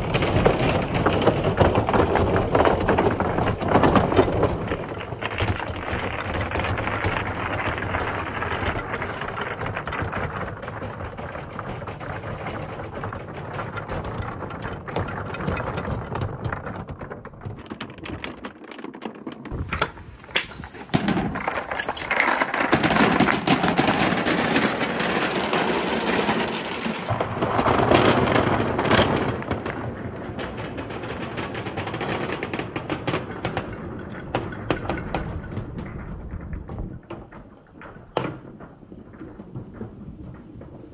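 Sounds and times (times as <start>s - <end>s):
balls rattling down wooden board: 0.1s - 40.9s.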